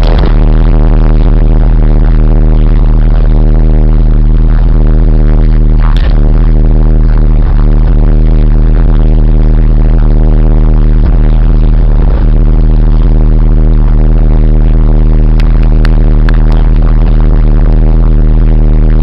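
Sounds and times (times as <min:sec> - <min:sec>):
distorted low drone with crackle: 0:00.0 - 0:19.0.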